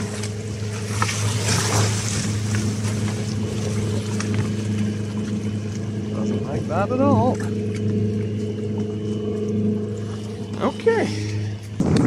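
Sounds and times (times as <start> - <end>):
small waves lapping: 0.0 - 11.8
low mechanical hum: 0.0 - 12.0.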